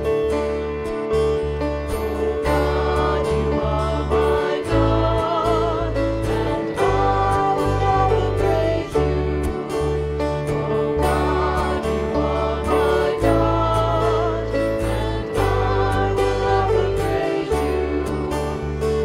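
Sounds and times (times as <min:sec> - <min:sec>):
steady bass line: 0:00.0 - 0:19.0
sustained instrumental chords: 0:00.0 - 0:19.0
person singing with vibrato: 0:02.4 - 0:19.0.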